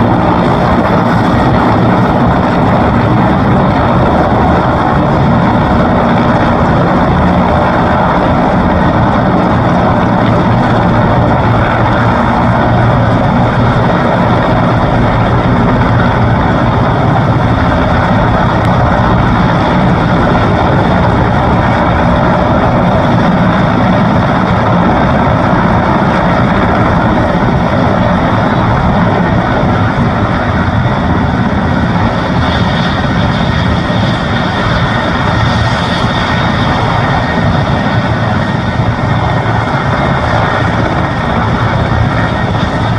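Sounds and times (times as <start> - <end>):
helicopter engines and rotor: 0.0 - 42.9.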